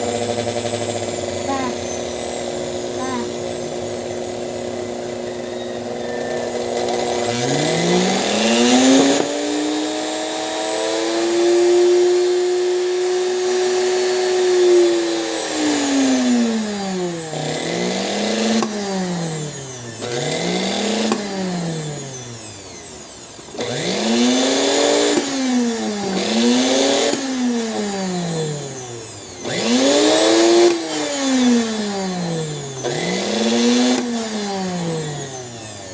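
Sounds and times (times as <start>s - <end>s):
sewing machine motor whining: 0.0s - 12.4s, 14.5s - 35.9s.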